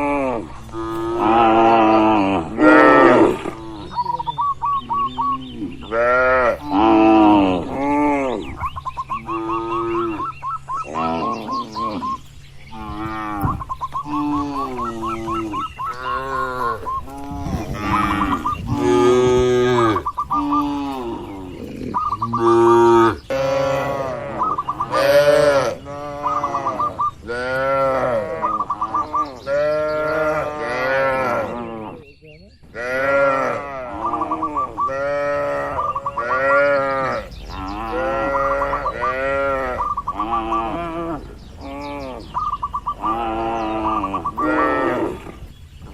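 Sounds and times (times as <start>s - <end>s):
cattle mooing: 0.0s - 4.2s, 4.9s - 8.5s, 9.2s - 32.1s, 32.8s - 45.5s
high chirping call: 3.3s - 7.3s, 8.2s - 33.2s, 33.9s - 45.9s.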